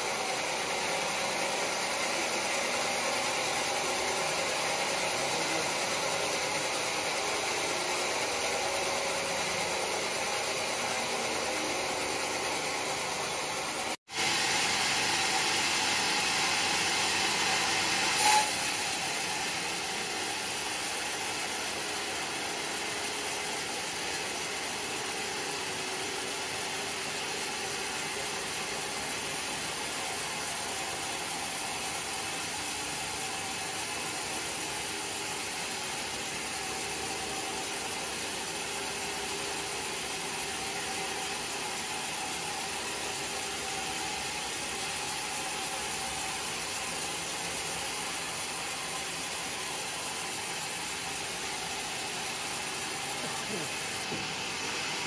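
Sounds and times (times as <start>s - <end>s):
band saw cutting timber: 0.0s - 32.6s, 33.2s - 55.0s.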